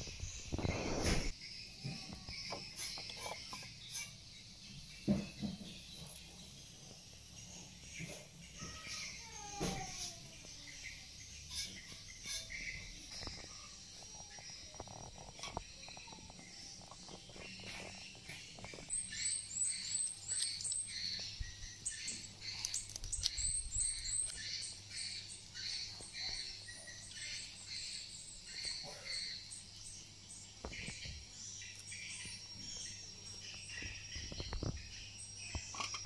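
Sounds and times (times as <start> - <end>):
faint insect chirring: 0.0 - 36.0
small birds chirping: 0.0 - 36.0.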